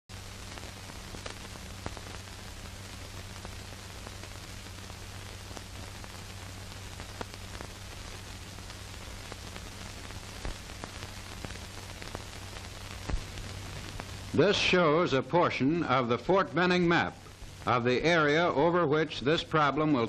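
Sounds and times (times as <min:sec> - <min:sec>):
crackles and pops: 0:00.1 - 0:20.0
film soundtrack hiss: 0:00.1 - 0:20.0.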